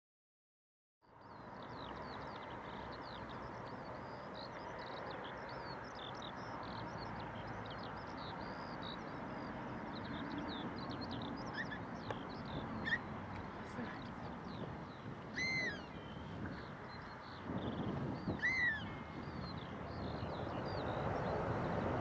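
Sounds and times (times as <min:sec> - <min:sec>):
small birds chirping: 0:01.0 - 0:22.0.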